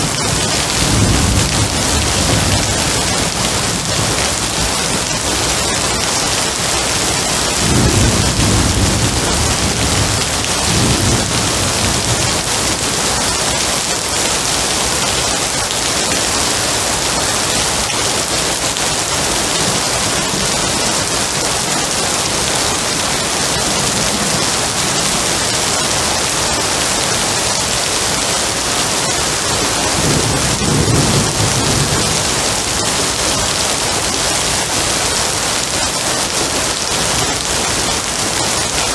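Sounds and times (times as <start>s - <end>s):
thunder rumbling: 0.0s - 27.4s, 28.2s - 35.8s
rain falling: 0.0s - 38.9s.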